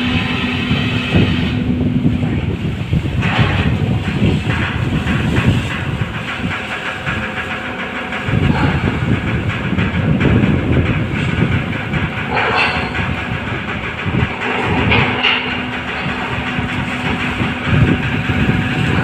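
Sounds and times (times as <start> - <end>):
ferry machinery rumbling: 0.0 - 19.0.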